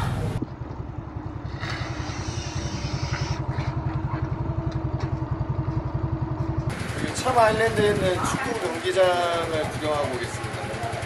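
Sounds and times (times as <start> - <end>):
motor scooter engine puttering: 0.0 - 11.0.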